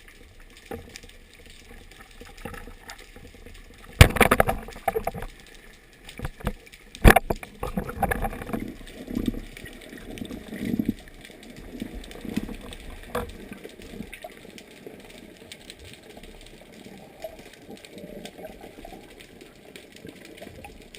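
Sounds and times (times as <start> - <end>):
muffled water surges: 0.0 - 20.9
steady underwater rumble: 0.0 - 20.9
water sloshing and bubbling: 0.0 - 20.9.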